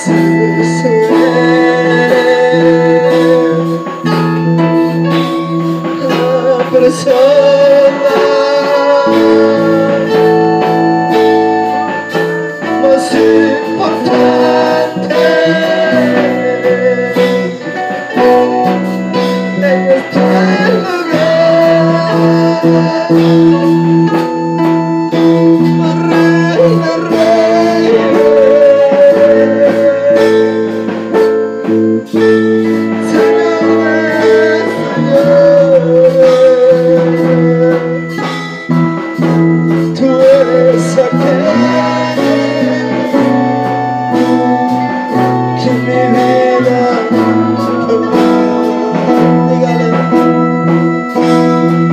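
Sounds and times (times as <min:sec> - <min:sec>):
bass: 0:00.0 - 0:51.9
drums: 0:00.0 - 0:51.9
keyboard chords: 0:00.0 - 0:51.9
person singing: 0:00.0 - 0:51.9.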